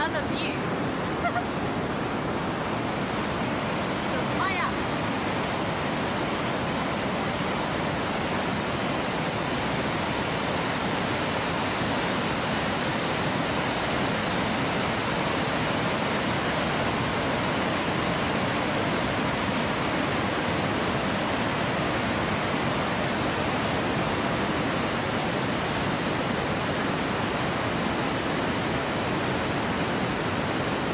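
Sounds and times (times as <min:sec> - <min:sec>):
waterfall and rapids rushing: 0:00.0 - 0:30.9.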